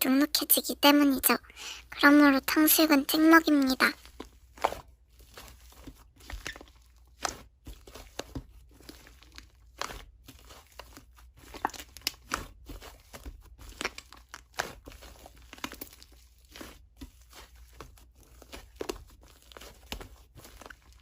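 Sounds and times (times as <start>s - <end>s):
slime crackling and popping: 2.7s - 21.0s.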